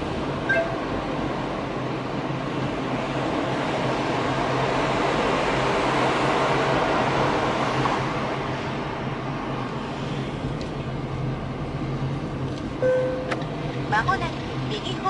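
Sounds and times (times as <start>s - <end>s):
low car engine hum: 0.0s - 15.0s
tyre and traffic rumble: 0.0s - 15.0s.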